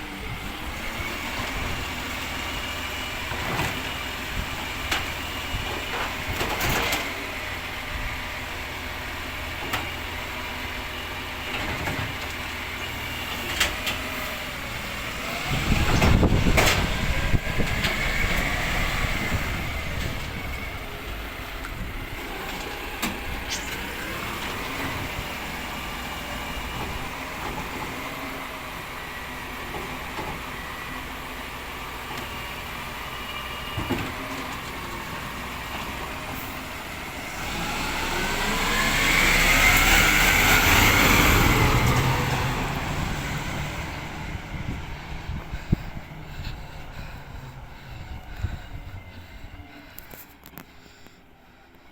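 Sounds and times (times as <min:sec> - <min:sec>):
garbage truck engine running: 0:00.0 - 0:51.9.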